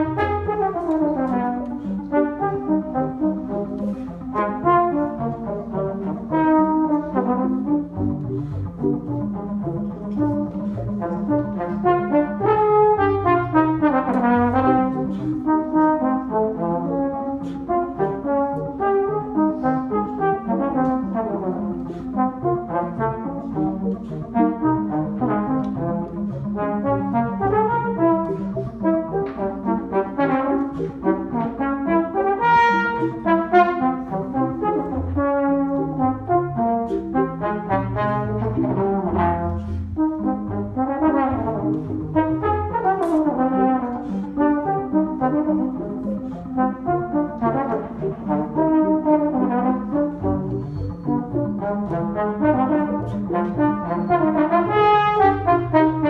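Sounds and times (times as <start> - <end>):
trombone playing fast melody: 0.0 - 56.0.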